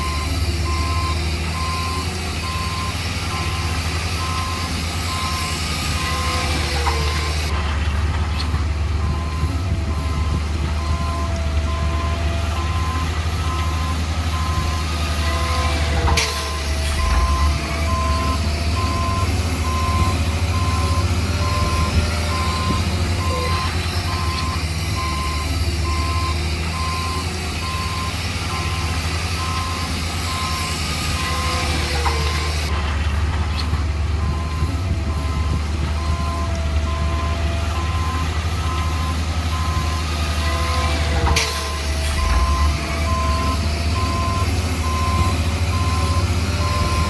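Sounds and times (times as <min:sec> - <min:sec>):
reversing alarm beeping: 0:00.0 - 0:07.5, 0:09.0 - 0:32.7, 0:34.2 - 0:47.0
diesel machinery droning: 0:00.0 - 0:47.0.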